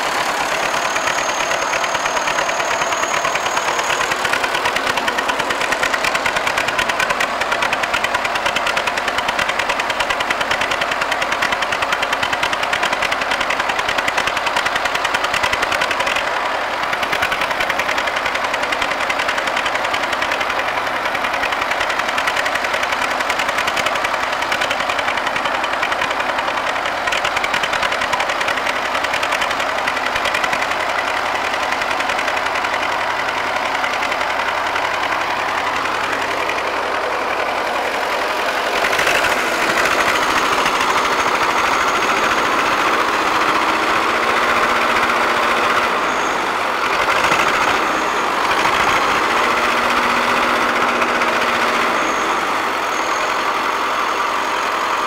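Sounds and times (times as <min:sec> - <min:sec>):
diesel engine knocking: 0:00.0 - 0:55.0.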